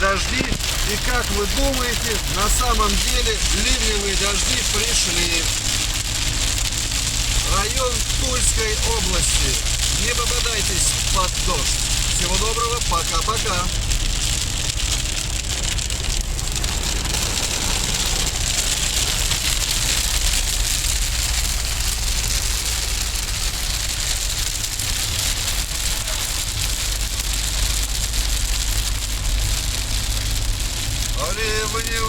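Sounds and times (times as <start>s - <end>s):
heavy rain on a car: 0.0s - 32.0s
moving vehicle rumble: 0.0s - 32.0s.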